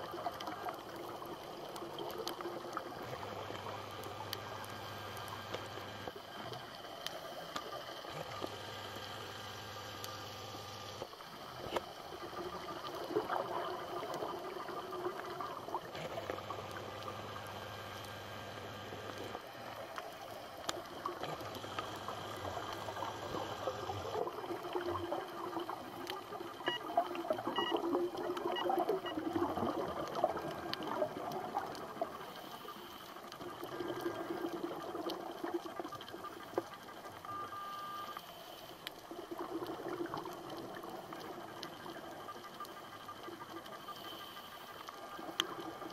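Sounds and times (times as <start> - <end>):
watery crackling and trickling: 0.0 - 45.9.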